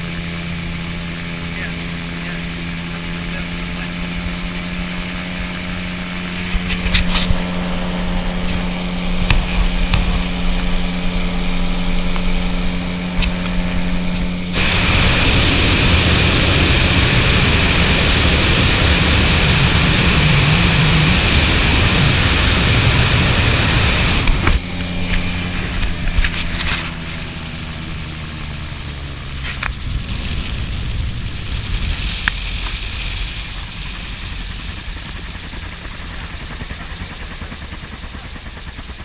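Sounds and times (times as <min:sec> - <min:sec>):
gyroplane engine running: 0:00.0 - 0:39.0
rushing wind: 0:00.0 - 0:39.0.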